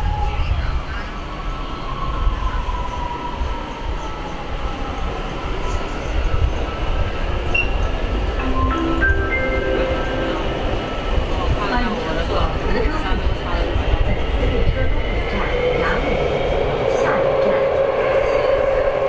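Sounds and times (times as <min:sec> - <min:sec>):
metro train rumble: 0:00.0 - 0:19.0.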